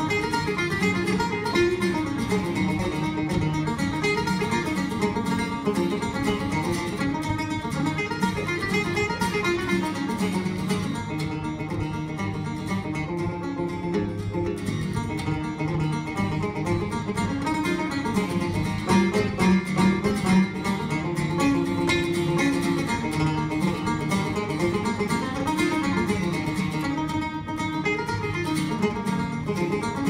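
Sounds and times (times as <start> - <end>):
acoustic guitar accompaniment: 0.0 - 30.0
banjo picking melody: 0.0 - 30.0.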